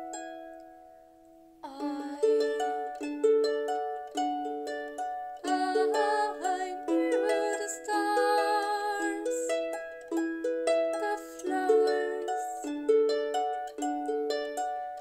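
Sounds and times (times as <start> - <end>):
harp being plucked: 0.0 - 15.0.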